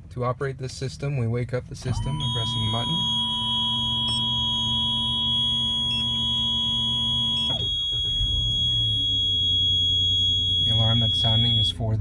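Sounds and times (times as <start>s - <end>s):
high-pitched alarm tone: 1.9s - 11.8s
low electronic alarm tone: 1.9s - 11.9s.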